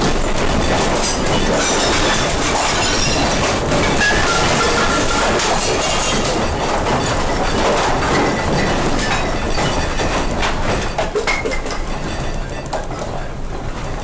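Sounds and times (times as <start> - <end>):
building rumbling and rattling: 0.0 - 14.0
loose objects clattering: 0.0 - 14.0.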